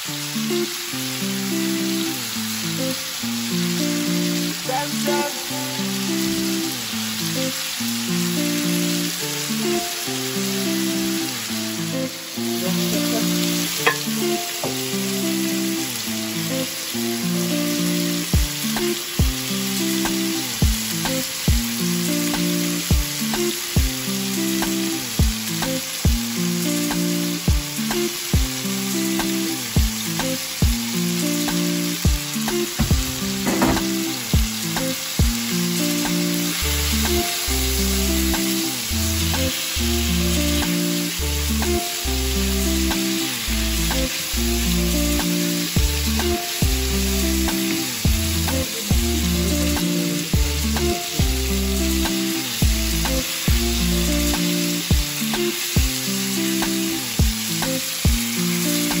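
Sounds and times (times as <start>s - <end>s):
chicken sizzling in a pan: 0.0s - 59.0s
background music with a beat: 8.3s - 59.0s.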